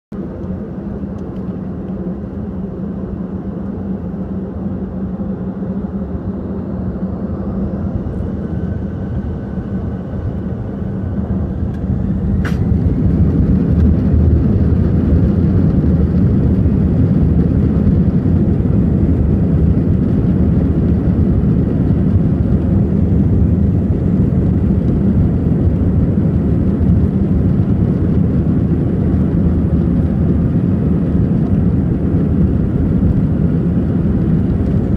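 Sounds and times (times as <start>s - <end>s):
jet engines spooling up: 0.3s - 34.9s.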